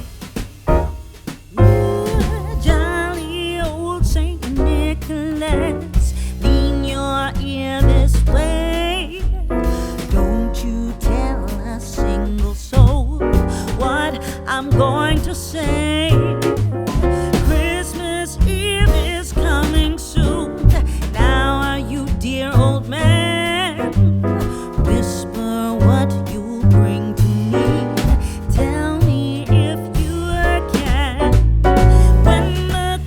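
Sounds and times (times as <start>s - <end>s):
song with vocal over piano: 1.6s - 33.0s.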